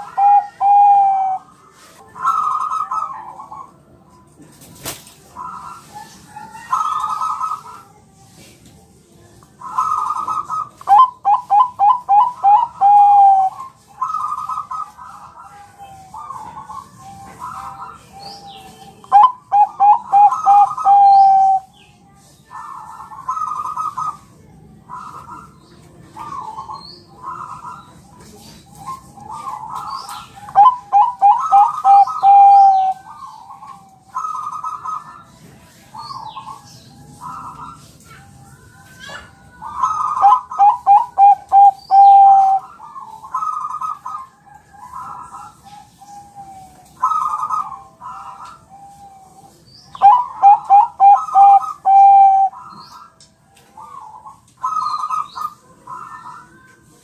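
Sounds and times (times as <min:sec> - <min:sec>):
dove cooing: 0:00.0 - 0:04.0, 0:05.3 - 0:08.1, 0:09.6 - 0:21.7, 0:22.5 - 0:56.7.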